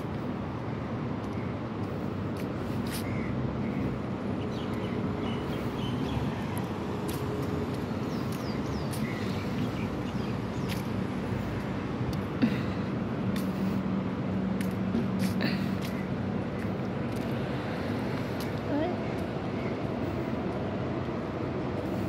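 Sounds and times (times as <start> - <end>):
distant traffic: 0.0 - 22.0.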